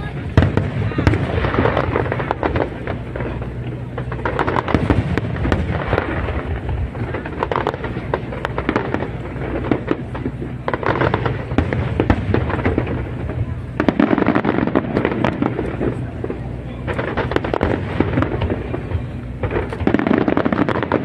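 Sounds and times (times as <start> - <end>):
fireworks bursting and crackling: 0.0 - 21.0
steady low rumble: 0.0 - 21.0.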